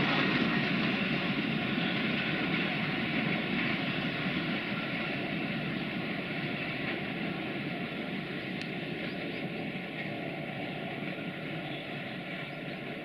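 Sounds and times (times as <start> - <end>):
freight train rumbling on track: 0.0 - 13.0.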